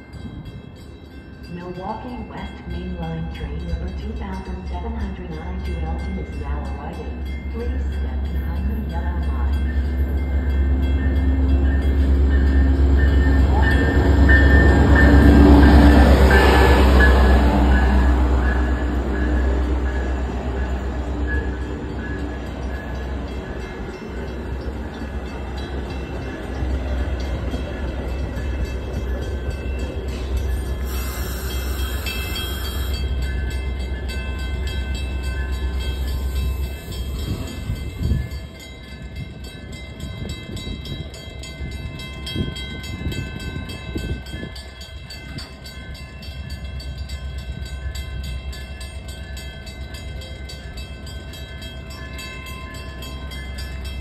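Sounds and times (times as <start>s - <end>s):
locomotive rumble: 0.0s - 54.0s
train cars rolling: 0.0s - 54.0s.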